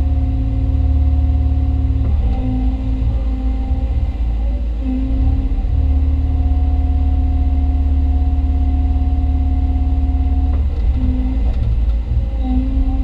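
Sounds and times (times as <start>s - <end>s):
excavator diesel engine rumble: 0.0s - 13.0s
hydraulic whine: 0.0s - 13.0s.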